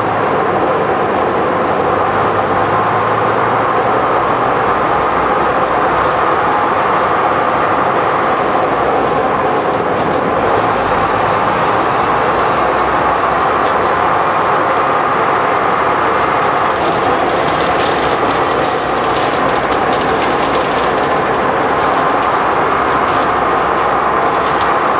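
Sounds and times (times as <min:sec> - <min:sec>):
bus engine and road drone: 0:00.0 - 0:24.9.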